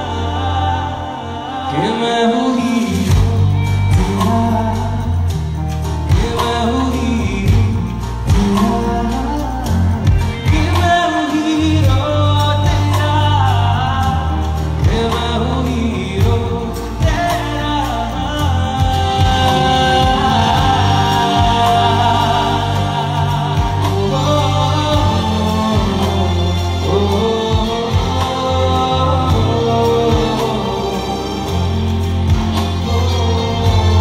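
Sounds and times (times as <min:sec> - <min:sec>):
live pop band: 0:00.0 - 0:34.0
man singing: 0:00.0 - 0:34.0.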